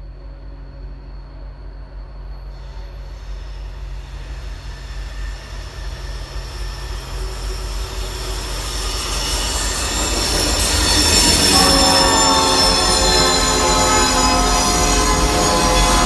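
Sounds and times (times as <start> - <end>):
diesel locomotive engine rumble: 0.0 - 16.0
wheels hissing and rattling on rail: 2.0 - 16.0.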